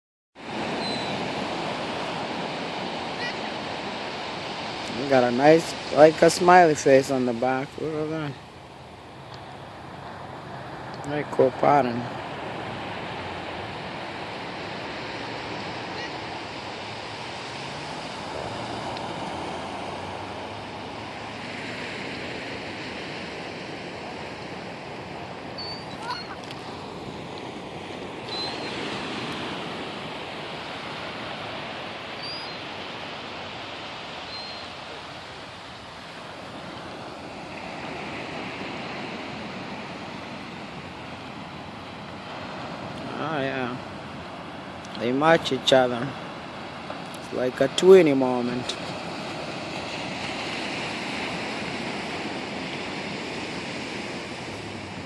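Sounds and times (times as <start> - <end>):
ocean surf washing ashore: 0.4 - 55.0.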